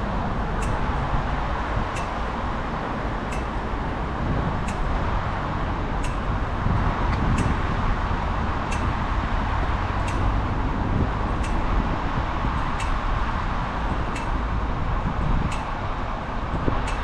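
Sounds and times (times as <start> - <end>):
passing traffic: 0.0 - 17.0
wind rumble: 0.0 - 17.0.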